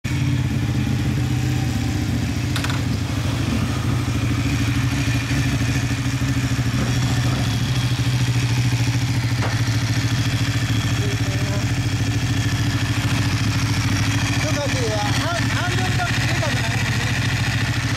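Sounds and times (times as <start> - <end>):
motorcycle engine idling: 0.1 - 17.9.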